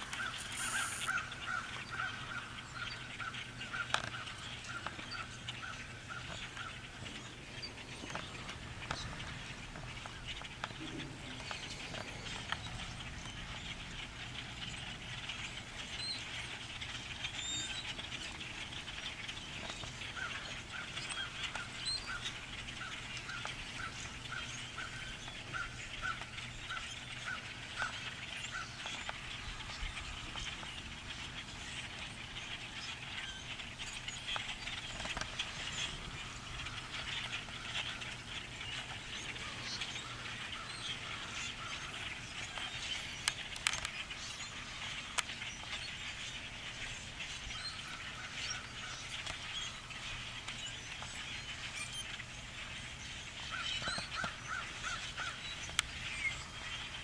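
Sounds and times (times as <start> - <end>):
flock of birds chattering: 0.0 - 57.0
repeated bird call: 0.0 - 57.0.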